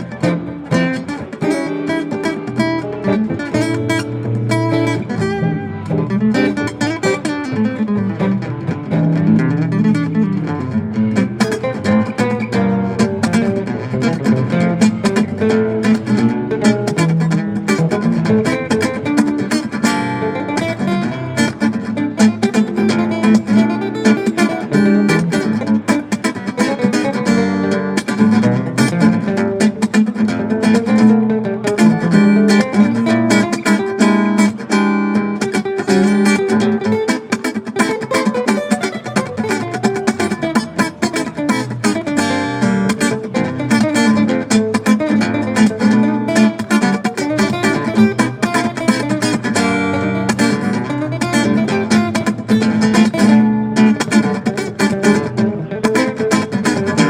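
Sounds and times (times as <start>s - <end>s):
guitar plucked and strummed: 0.0s - 57.0s.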